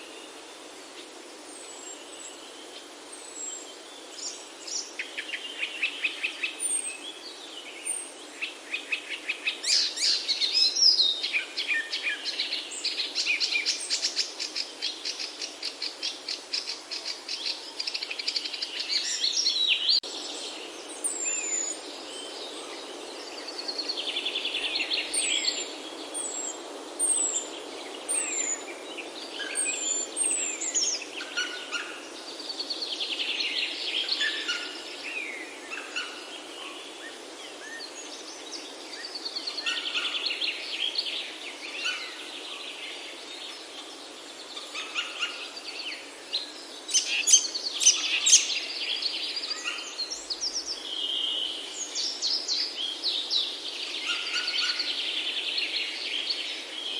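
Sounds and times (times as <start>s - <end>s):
songbirds trilling: 0.0s - 56.9s
steady background hiss: 0.0s - 56.9s.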